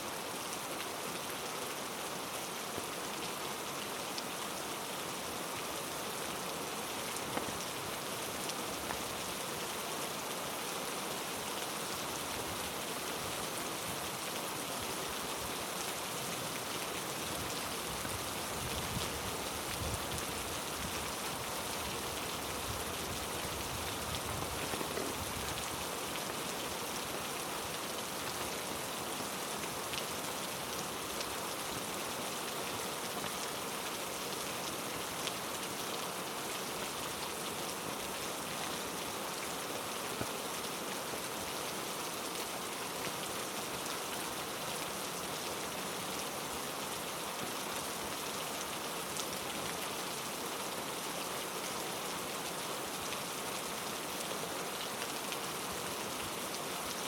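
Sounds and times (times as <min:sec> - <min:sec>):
heavy rain falling: 0:00.1 - 0:57.0.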